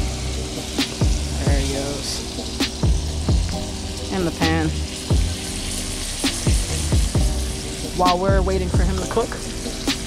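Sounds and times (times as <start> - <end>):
fish sizzling in a pan: 0.0 - 10.0
music with deep kick drums: 0.0 - 10.0.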